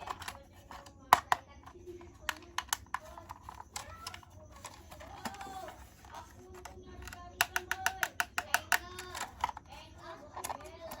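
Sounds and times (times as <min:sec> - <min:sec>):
plastic toy clicks and taps: 0:00.0 - 0:11.0.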